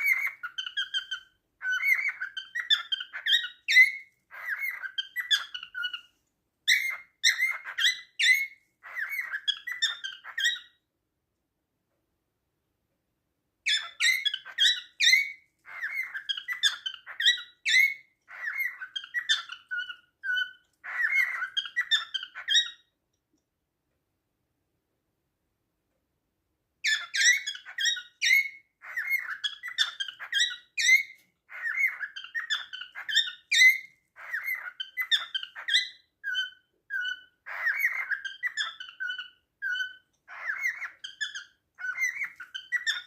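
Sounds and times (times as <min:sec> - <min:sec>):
cockatiel chirping whistles: 0:00.0 - 0:06.1, 0:06.7 - 0:10.8, 0:13.7 - 0:22.9, 0:26.8 - 0:43.0.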